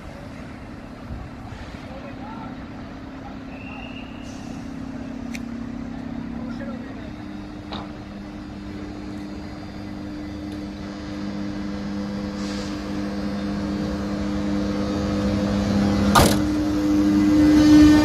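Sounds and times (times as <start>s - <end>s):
electric locomotive humming: 0.0s - 18.0s.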